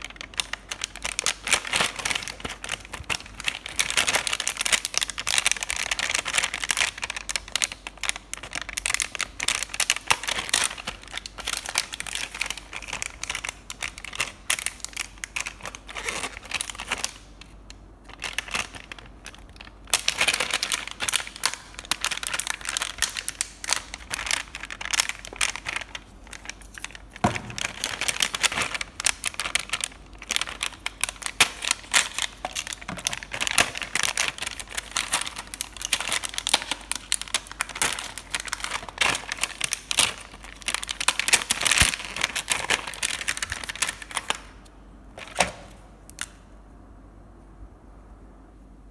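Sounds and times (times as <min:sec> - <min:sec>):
plastic packaging crinkling: 0:00.0 - 0:46.4.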